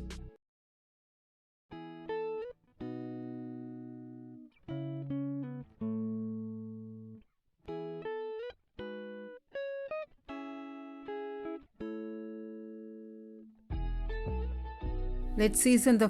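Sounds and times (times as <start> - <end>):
plucked string music: 1.8 - 16.0.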